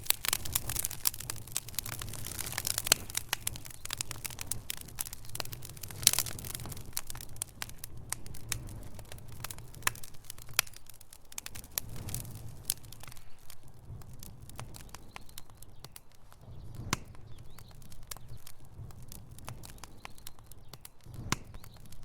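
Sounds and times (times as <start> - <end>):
logs crackling and popping: 0.0 - 22.0
low steady fire rumble: 0.0 - 22.0.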